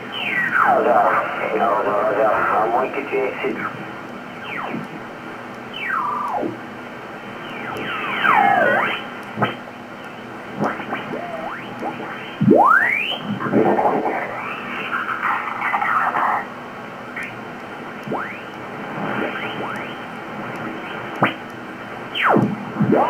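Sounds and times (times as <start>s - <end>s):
radio gliding tones: 0.0s - 23.0s
radio hiss: 0.0s - 23.0s.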